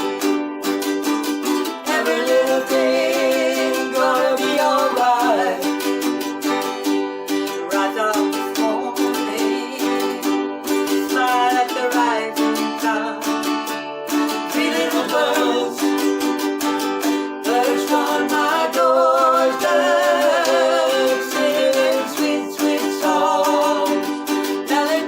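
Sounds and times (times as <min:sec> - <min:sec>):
person singing: 0:00.0 - 0:25.0
ukulele strumming chords: 0:00.0 - 0:25.0.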